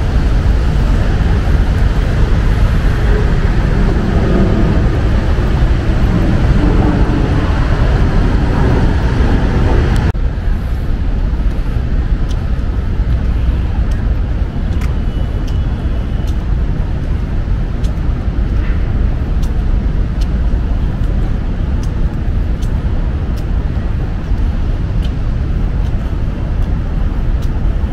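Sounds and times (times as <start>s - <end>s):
road traffic rumble: 0.0s - 27.9s.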